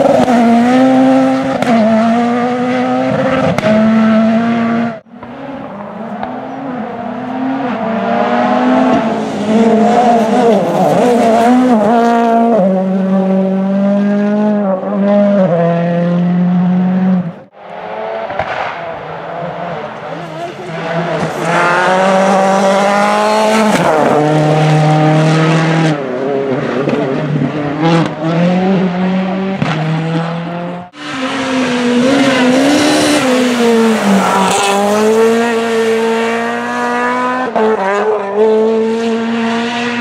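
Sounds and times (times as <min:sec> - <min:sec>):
rally car engines revving: 0:00.0 - 0:40.0.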